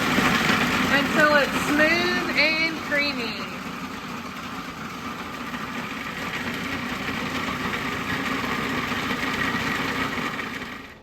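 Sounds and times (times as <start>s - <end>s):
food processor motor running: 0.0s - 11.0s.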